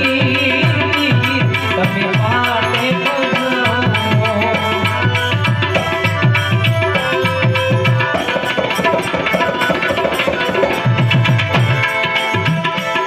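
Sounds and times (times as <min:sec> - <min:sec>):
hand drum steady rhythm: 0:00.0 - 0:13.0
harmonium sustained notes: 0:00.0 - 0:13.0.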